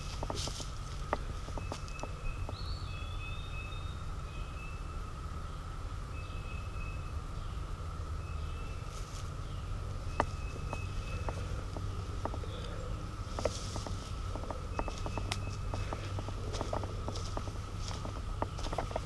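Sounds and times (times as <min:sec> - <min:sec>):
birds calling: 0:00.0 - 0:19.0
steady high hum: 0:00.0 - 0:19.0.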